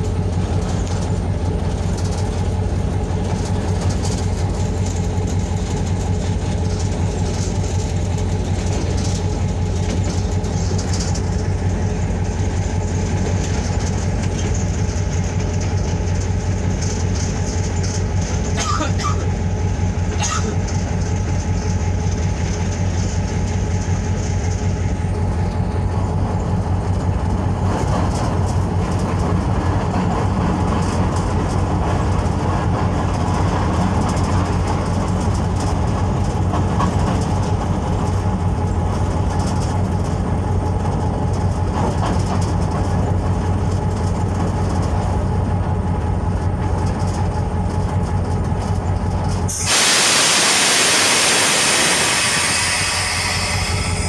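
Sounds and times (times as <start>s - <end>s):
diesel locomotive engine drone: 0.0s - 54.0s
train wheels clacking on rails: 0.0s - 54.0s.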